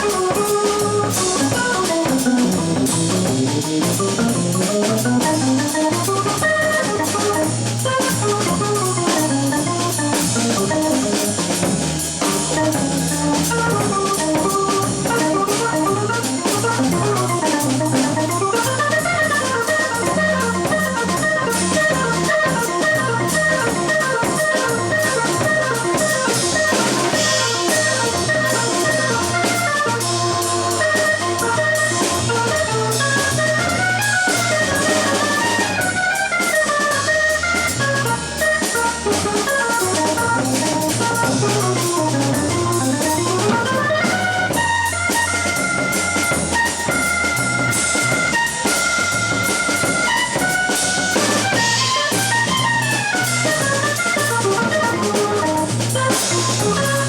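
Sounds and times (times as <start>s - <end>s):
jazz trio playing: 0.0s - 57.0s.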